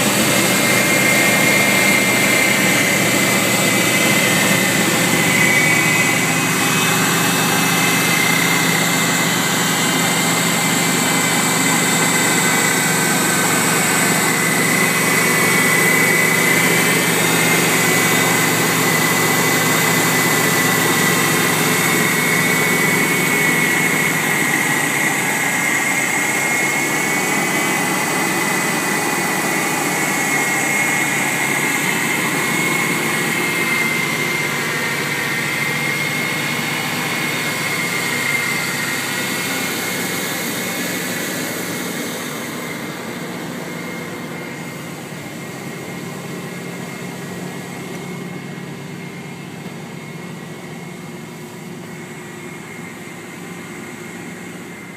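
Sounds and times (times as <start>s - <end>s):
constant high whine: 0.0s - 54.9s
pickup engine idling: 0.0s - 54.9s.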